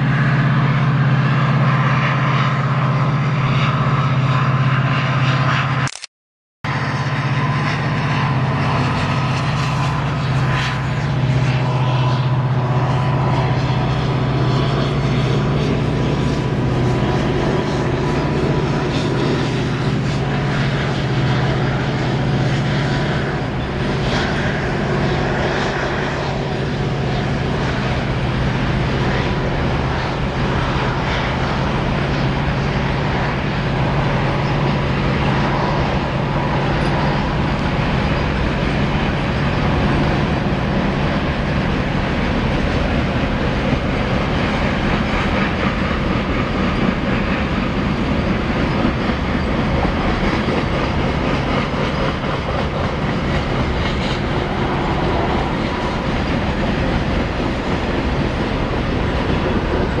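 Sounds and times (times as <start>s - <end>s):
freight train wagons rumbling: 0.0s - 5.8s, 6.7s - 60.0s.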